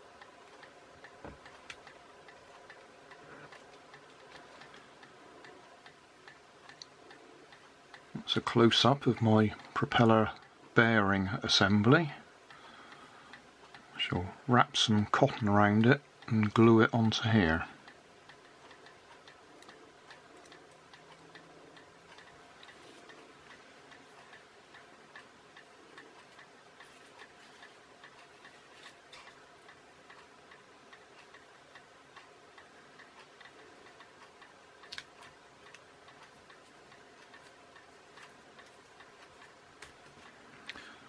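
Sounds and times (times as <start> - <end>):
faint regular ticking: 0.0 - 41.0.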